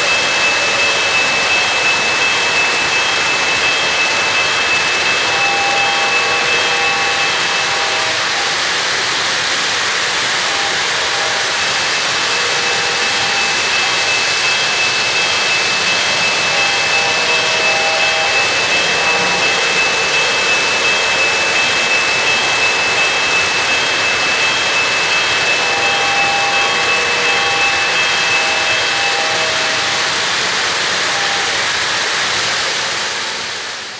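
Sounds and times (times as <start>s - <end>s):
model train wheels rolling: 0.0s - 33.9s
thin high whine: 0.0s - 33.9s.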